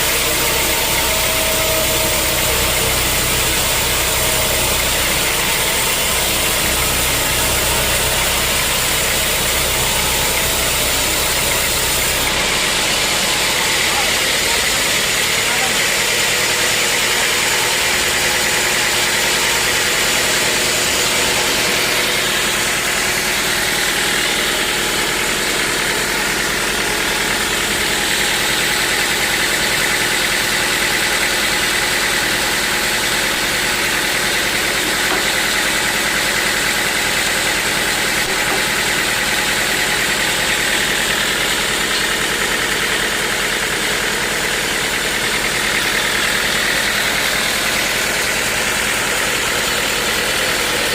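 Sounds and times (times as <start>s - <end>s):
high mechanical whine: 0.0s - 50.9s
sawmill machinery drone: 0.0s - 50.9s.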